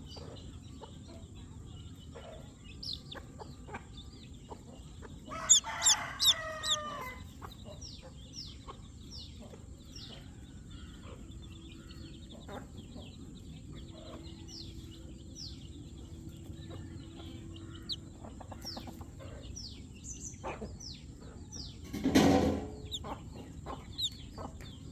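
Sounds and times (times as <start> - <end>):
baby chicks peeping: 0.0 - 24.9.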